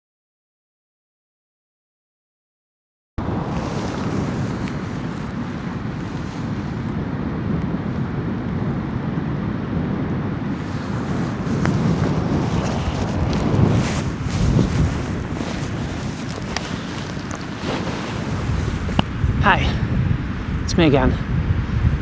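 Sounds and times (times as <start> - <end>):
wind rushing over microphone: 3.2 - 22.0.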